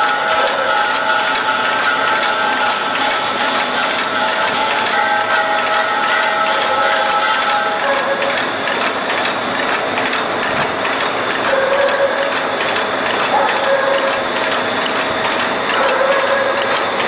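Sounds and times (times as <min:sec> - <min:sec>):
machine clattering rapid clicks: 0:00.0 - 0:17.0.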